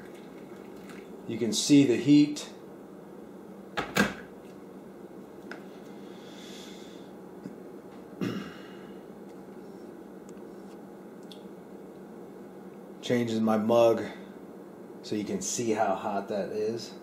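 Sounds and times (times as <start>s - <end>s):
constant room hum: 0.0s - 17.0s.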